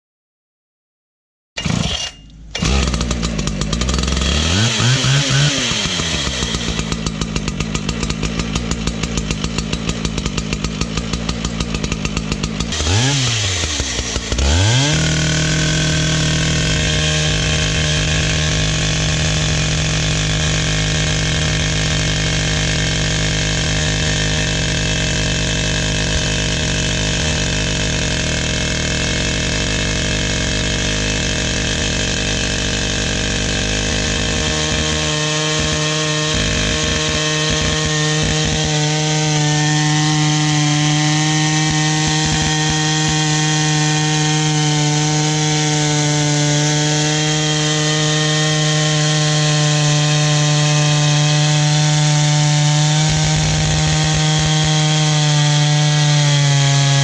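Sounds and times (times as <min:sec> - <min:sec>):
chain cutting into brick wall: 0:01.6 - 0:55.7
chainsaw engine revving: 0:01.6 - 0:57.0.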